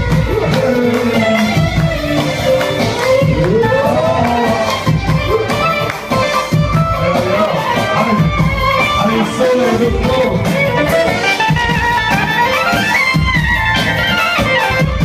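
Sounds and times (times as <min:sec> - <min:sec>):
drums: 0:00.0 - 0:15.0
keyboard melody: 0:00.0 - 0:15.0.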